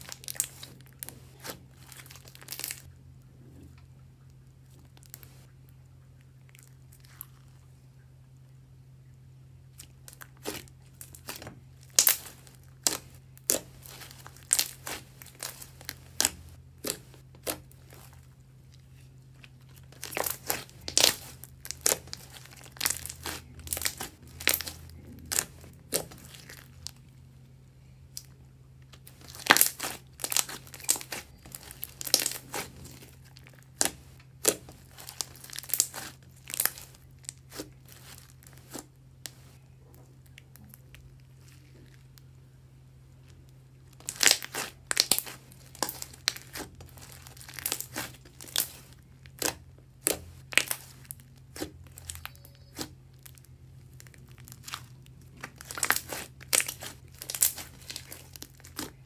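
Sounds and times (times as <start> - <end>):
slime crackling and popping: 0.0 - 2.9, 9.7 - 27.1, 28.1 - 39.6, 43.2 - 59.0
steady low hum: 0.0 - 59.0.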